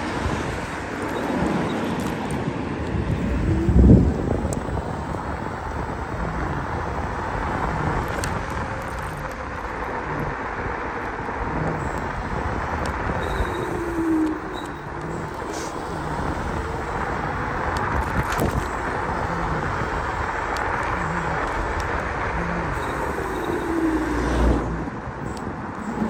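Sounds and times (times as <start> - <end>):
falling whine: 0.0 - 26.0
wind and tyre rush: 0.0 - 26.0.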